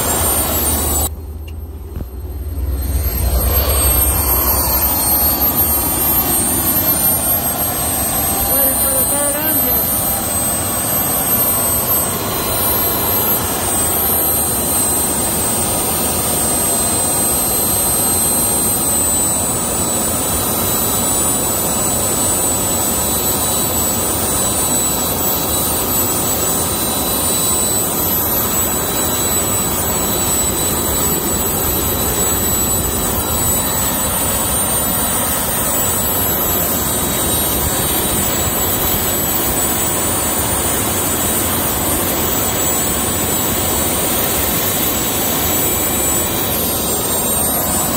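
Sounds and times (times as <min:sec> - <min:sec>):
high-pitched turbine whine: 0:00.0 - 0:47.9
jet engines rushing: 0:00.0 - 0:47.9.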